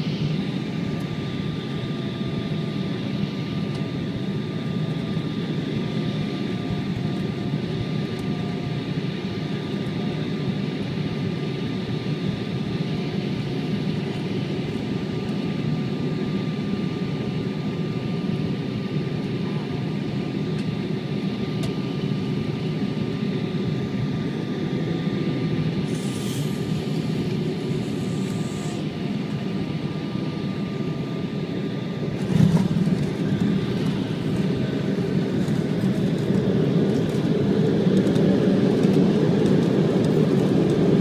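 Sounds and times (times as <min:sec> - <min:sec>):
jet engines and airflow rumble: 0:00.0 - 0:41.0
rushing rumble of jet on runway: 0:00.0 - 0:41.0.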